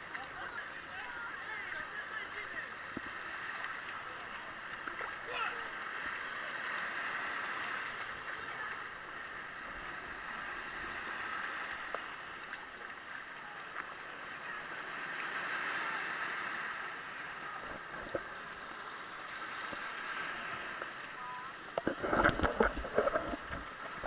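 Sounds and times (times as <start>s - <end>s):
water lapping: 0.0s - 24.0s.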